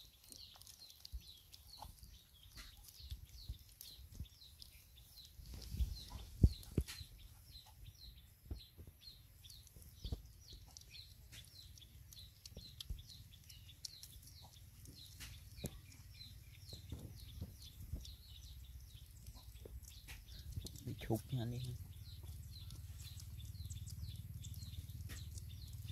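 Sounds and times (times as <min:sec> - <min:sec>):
birds chirping: 0:00.0 - 0:25.9
puppies feeding from bowl: 0:00.0 - 0:25.9.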